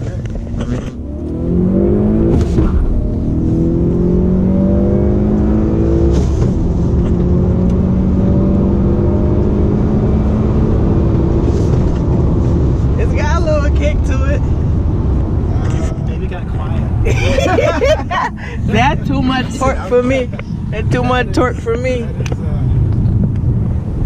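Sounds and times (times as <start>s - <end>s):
car engine under heavy throttle: 0.0s - 24.0s.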